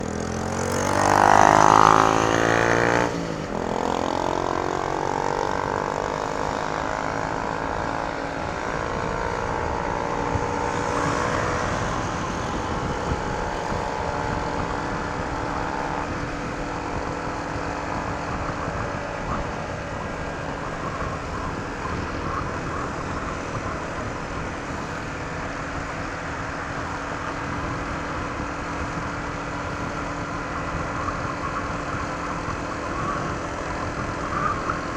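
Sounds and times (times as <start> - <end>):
road noise: 0.0 - 34.9
scooter engine accelerating: 0.0 - 34.9
wind noise: 0.0 - 34.9.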